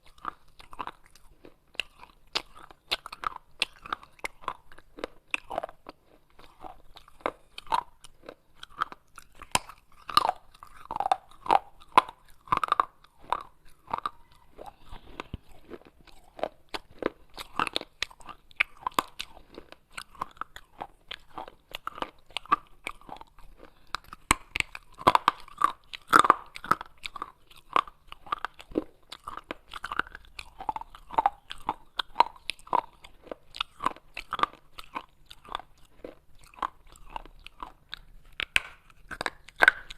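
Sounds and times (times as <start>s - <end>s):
clay pieces crunching in mouth: 0.0s - 39.9s.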